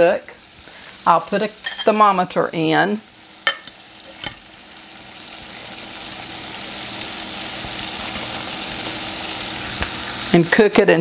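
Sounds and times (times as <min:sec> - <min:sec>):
syrup boiling in saucepan: 0:00.0 - 0:11.0.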